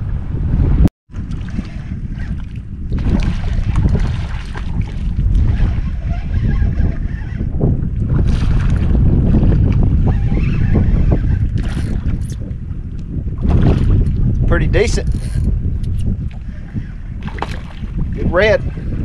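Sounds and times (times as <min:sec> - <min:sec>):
wind buffeting microphone: 0:00.0 - 0:19.0
water lapping at boat: 0:01.1 - 0:15.5, 0:16.2 - 0:19.0.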